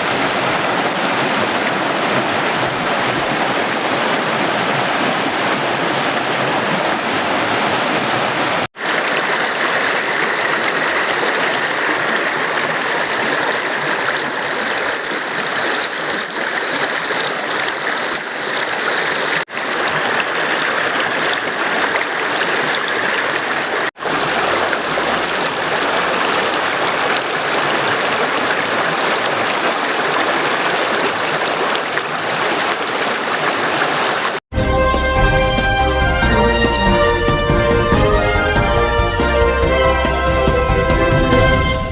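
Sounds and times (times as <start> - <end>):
mountain stream rushing: 0.0 - 41.9.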